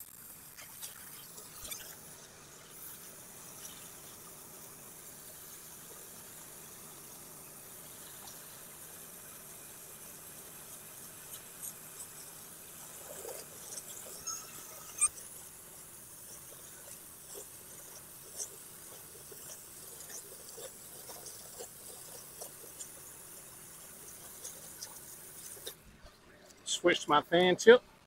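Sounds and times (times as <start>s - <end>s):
pressure washer spray hiss: 0.0s - 25.8s.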